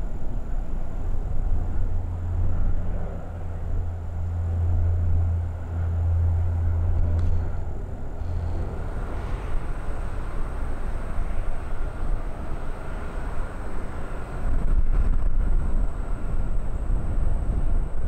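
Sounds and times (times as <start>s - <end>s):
deep low rumble: 0.0s - 18.0s
distant jet engines rushing: 0.0s - 18.0s.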